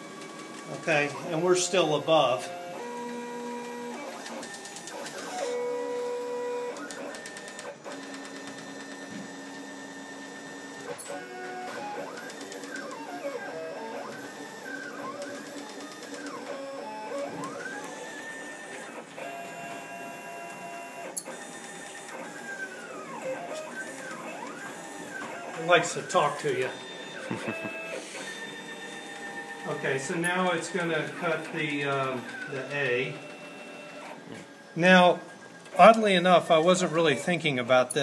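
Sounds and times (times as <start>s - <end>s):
stepper motors whining: 2.5s - 37.6s.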